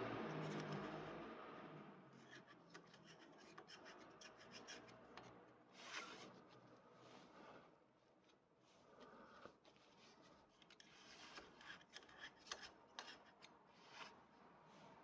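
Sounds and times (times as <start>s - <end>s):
light clicks and scraping: 2.1s - 15.0s.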